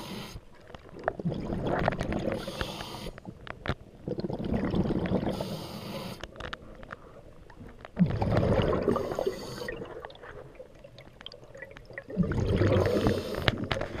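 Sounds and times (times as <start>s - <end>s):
exhaled air bubbling underwater: 0.0s - 6.4s, 7.2s - 14.0s.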